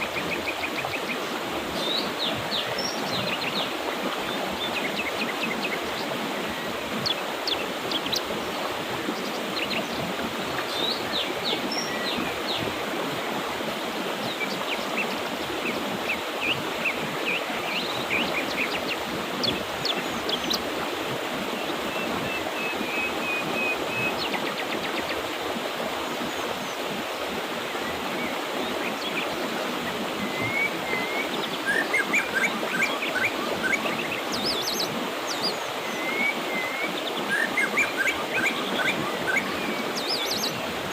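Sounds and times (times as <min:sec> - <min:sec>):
mountain river flowing: 0:00.0 - 0:40.9.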